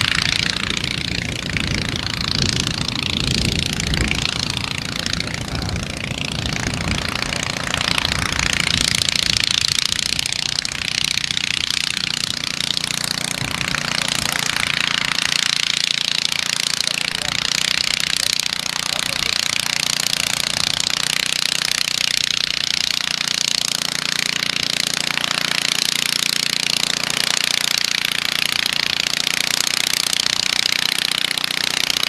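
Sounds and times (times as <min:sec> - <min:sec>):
propeller plane engine running: 0:00.0 - 0:32.0.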